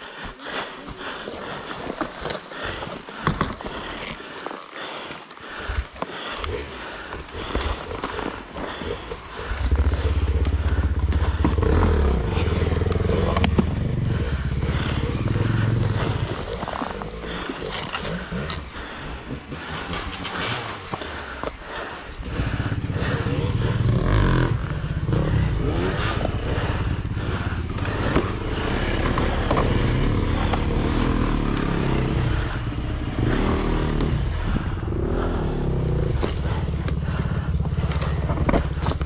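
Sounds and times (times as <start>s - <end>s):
quiet rhythmic sounds: 0.0s - 39.0s
two-stroke motorcycle engine running: 0.0s - 39.0s.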